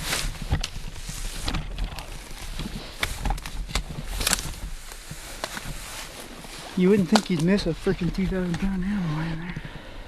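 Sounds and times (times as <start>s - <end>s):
footsteps through dry grass: 0.0s - 9.5s
clothing and gear rustle: 0.0s - 9.7s.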